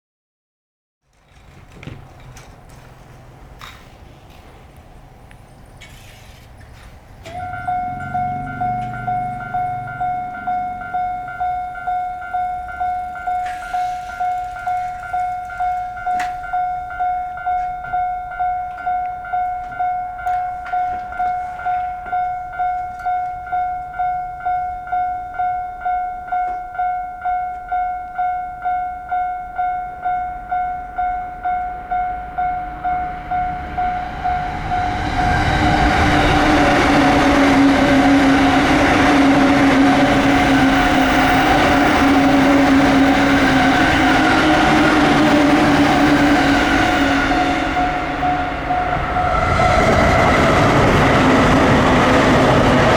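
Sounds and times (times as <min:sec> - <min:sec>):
train rumble: 0:01.0 - 0:52.9
level-crossing alarm ringing: 0:04.3 - 0:52.9.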